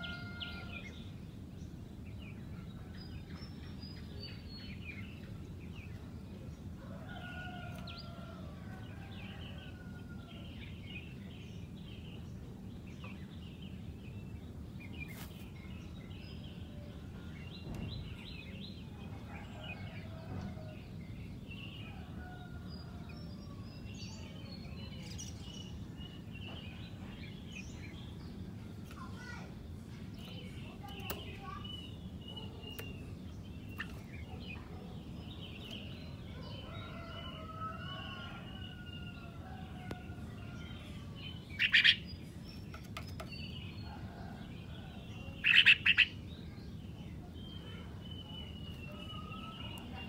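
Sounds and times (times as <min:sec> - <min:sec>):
bulbuls singing: 0:00.0 - 0:50.0.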